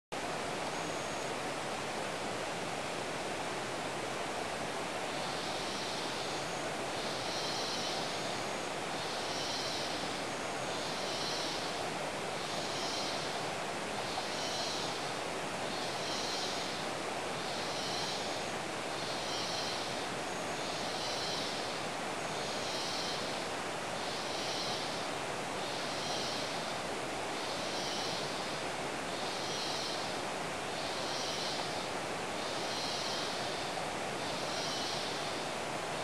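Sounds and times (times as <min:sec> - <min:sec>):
forest ambience hiss: 0:00.2 - 0:36.0.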